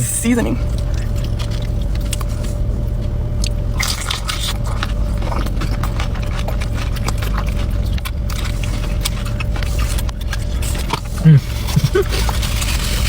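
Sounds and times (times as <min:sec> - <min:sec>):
person crunching chicken wings: 0:00.7 - 0:02.8, 0:03.4 - 0:13.0.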